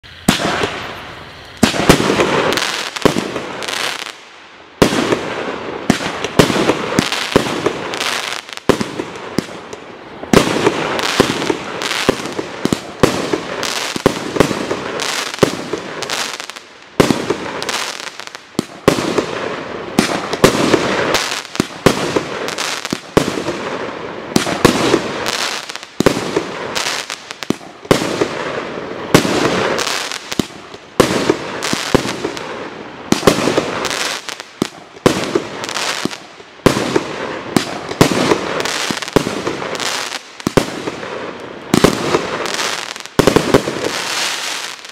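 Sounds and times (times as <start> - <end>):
crackling firework stars: 0.0 - 44.9
firework bangs: 0.0 - 44.9.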